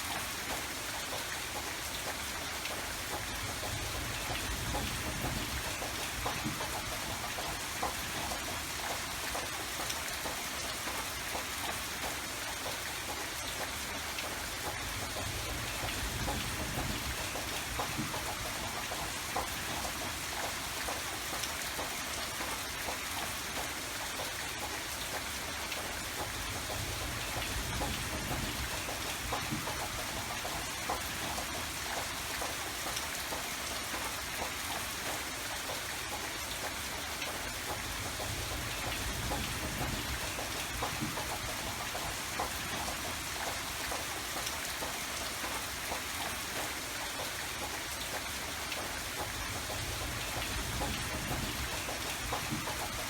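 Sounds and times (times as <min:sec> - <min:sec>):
raindrops pattering: 0:00.0 - 0:53.0.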